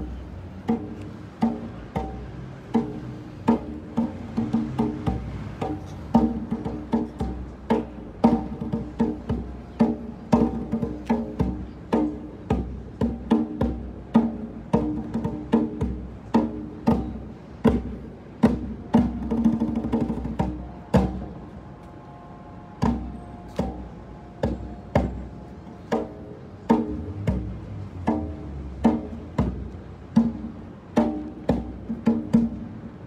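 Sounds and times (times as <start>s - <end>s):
hand drum beat: 0.0s - 21.4s, 22.8s - 32.9s.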